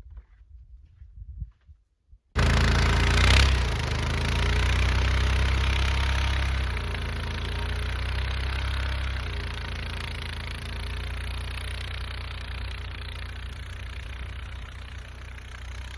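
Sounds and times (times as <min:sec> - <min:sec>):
engine running: 0:02.4 - 0:15.9.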